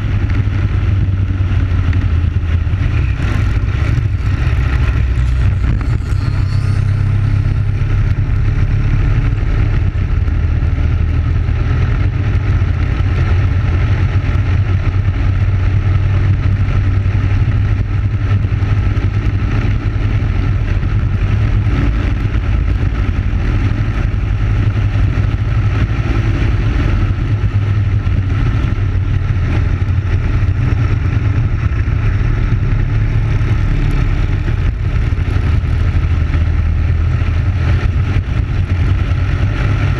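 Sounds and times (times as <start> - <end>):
kart engine droning: 0.0 - 39.9.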